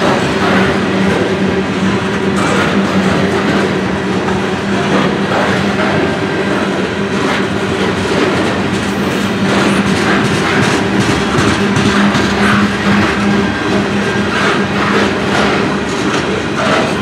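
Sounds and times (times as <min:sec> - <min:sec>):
train cars rumbling on rails: 0:00.0 - 0:17.0
wheels clacking over rail joints: 0:00.0 - 0:17.0.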